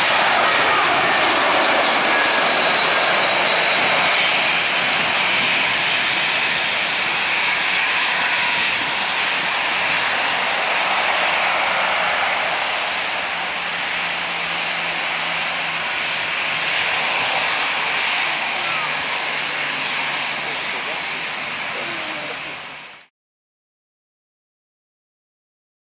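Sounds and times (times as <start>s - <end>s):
jet airliner landing: 0.0s - 23.1s.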